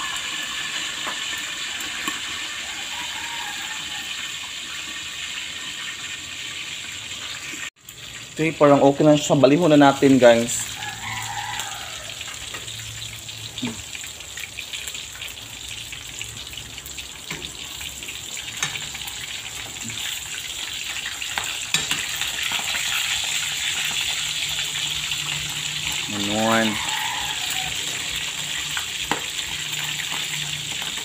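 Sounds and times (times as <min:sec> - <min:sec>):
pork deep-frying in oil: 0:00.0 - 0:31.0.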